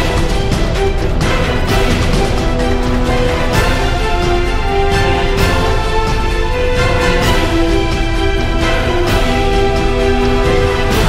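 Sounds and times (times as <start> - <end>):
theme music with percussive hits: 0.0 - 11.0.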